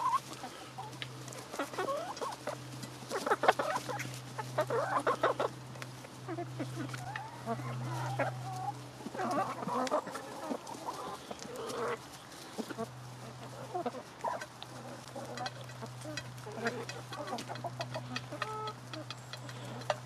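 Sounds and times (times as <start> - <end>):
beaks pecking at food: 0.0 - 20.0
chickens clucking: 0.0 - 20.0.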